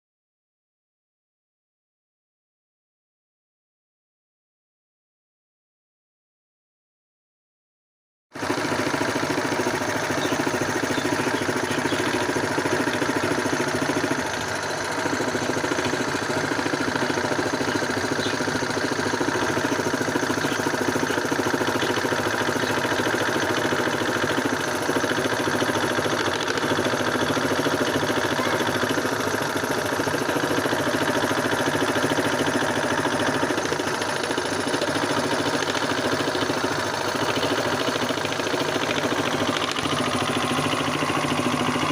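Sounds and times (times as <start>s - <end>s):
scroll saw running: 8.4s - 41.9s.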